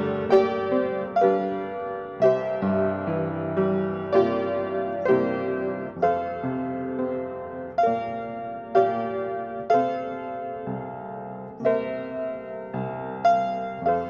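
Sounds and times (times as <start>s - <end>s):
solo piano chords: 0.0s - 14.0s.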